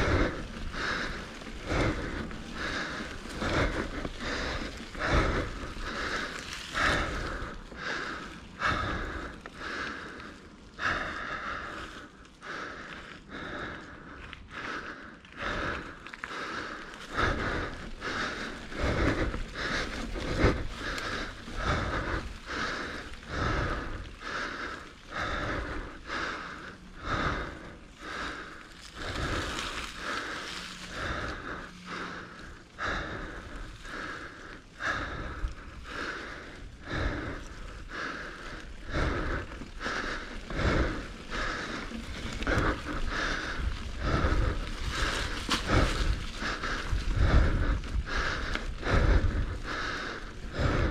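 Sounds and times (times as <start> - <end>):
person breathing hard: 0.0 - 50.9.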